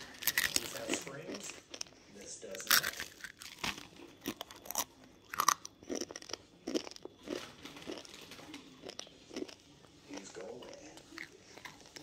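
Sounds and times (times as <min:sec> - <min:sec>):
child crunching dry noodles: 0:00.0 - 0:12.0.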